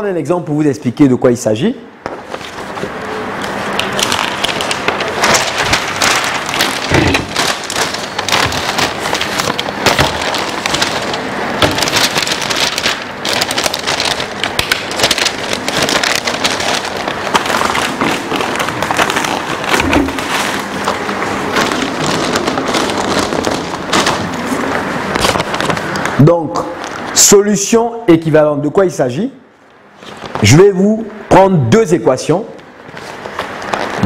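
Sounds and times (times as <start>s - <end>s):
paper sheets rustling and crackling: 2.1s - 27.3s, 29.9s - 30.6s, 32.6s - 34.0s.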